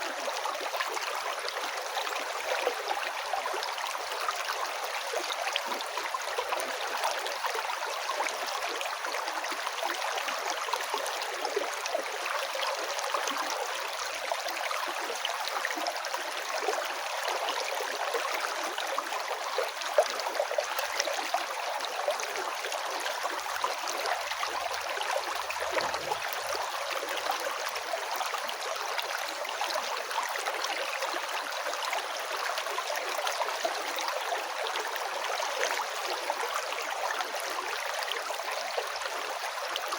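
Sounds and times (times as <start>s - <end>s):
river water gurgling over stones: 0.0s - 39.9s.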